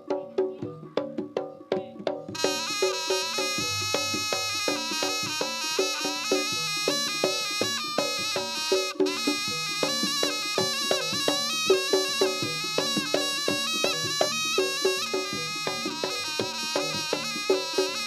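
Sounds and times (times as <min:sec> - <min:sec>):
drum strokes: 0:00.0 - 0:18.0
reed shawm melody: 0:02.1 - 0:18.0.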